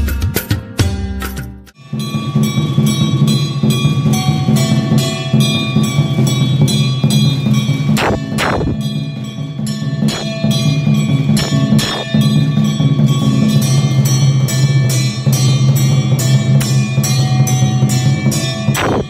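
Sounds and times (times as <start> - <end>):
drum beaten rapidly: 0.0 - 19.0
brass bells ringing: 1.8 - 19.0.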